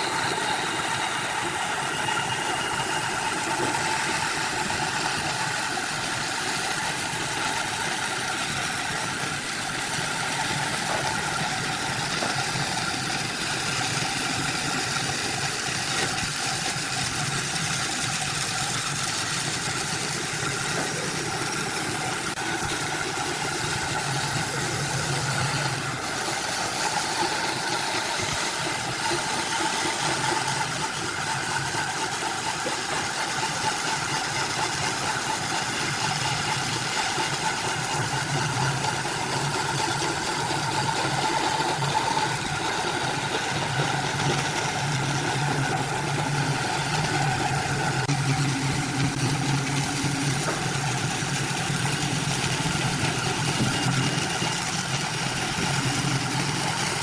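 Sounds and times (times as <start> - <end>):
machine motor humming: 0.0 - 57.0.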